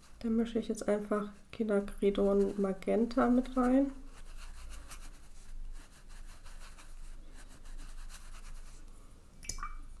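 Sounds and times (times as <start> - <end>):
paintbrush scrubbing paper: 0.0 - 8.8.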